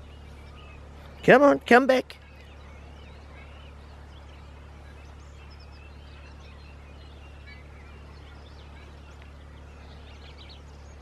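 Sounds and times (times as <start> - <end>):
steady low hum: 0.0 - 11.0
wild birds chirping and whistling: 0.0 - 11.0.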